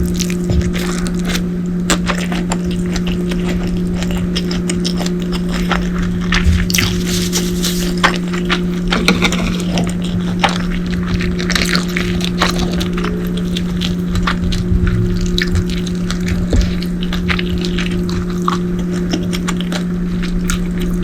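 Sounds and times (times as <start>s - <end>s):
chewing and crunching food: 0.0s - 21.0s
steady low hum: 0.0s - 21.0s.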